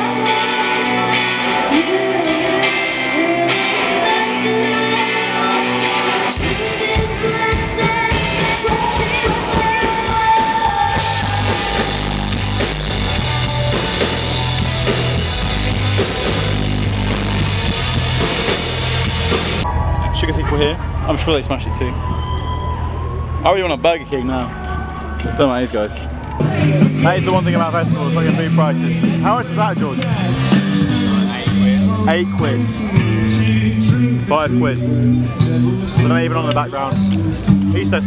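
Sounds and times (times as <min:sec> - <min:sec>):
live rock band with singing: 0:00.0 - 0:19.6, 0:26.1 - 0:38.0.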